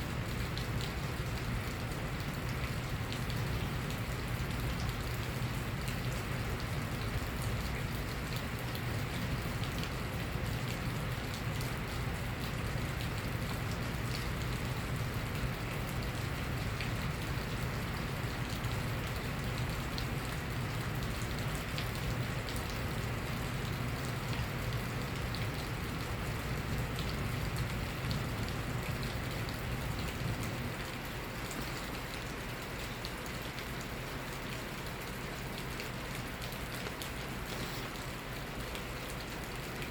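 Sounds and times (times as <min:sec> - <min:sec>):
rain falling: 0:00.0 - 0:39.9
raindrops ticking on a surface: 0:00.0 - 0:39.9.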